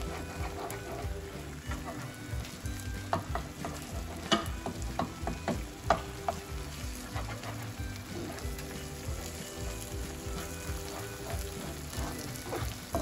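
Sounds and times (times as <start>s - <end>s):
food sizzling: 0.0s - 13.0s
spatula scraping frying pan: 0.0s - 13.0s
spatula tapping pan: 0.0s - 13.0s.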